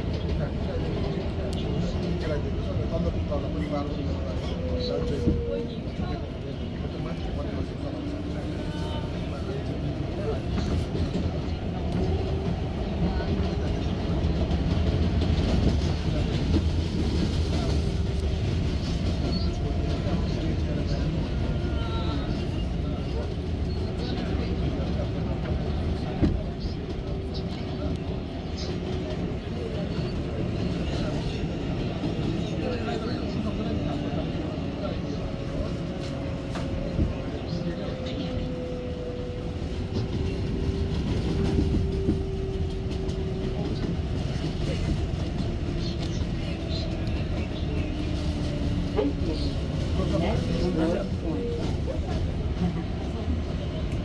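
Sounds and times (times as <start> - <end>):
subway train rumbling on track: 0.0 - 54.0.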